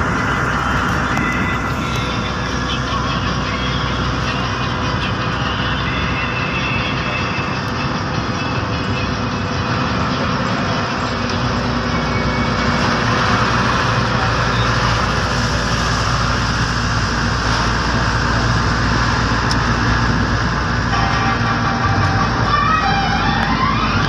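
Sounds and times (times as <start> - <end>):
engine rumble: 0.0 - 24.0.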